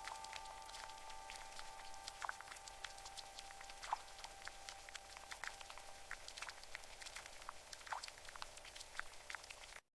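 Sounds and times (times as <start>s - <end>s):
water trickling and dripping: 0.0s - 9.9s.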